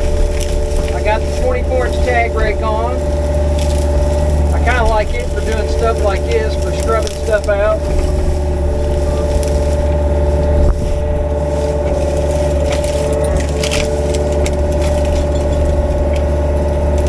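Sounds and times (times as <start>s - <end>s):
excavator engine running: 0.0s - 17.0s
rake scraping through brush: 0.0s - 17.0s.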